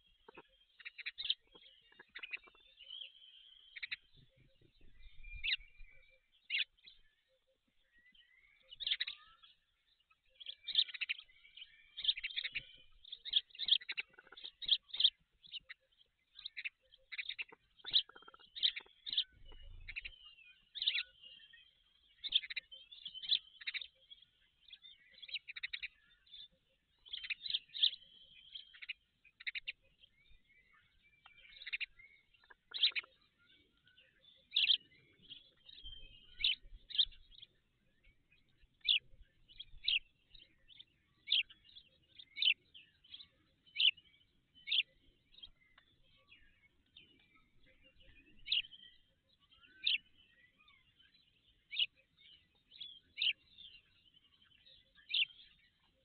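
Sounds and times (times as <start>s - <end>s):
high bird chirps and twittering: 0.0s - 56.0s.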